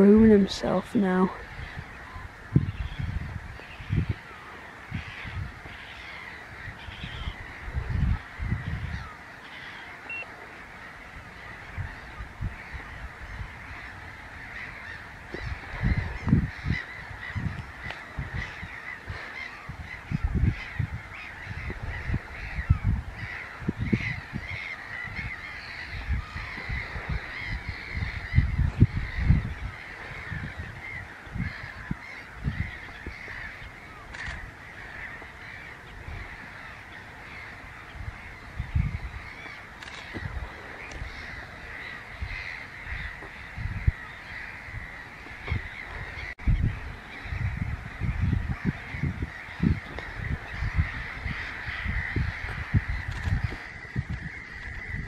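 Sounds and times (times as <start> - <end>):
water birds calling: 0.0 - 55.0.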